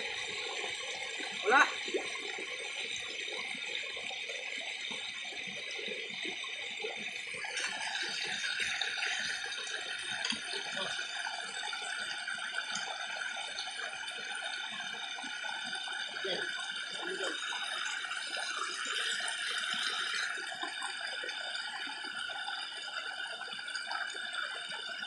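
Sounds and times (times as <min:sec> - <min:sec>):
stream water gushing and splashing: 0:00.0 - 0:25.0.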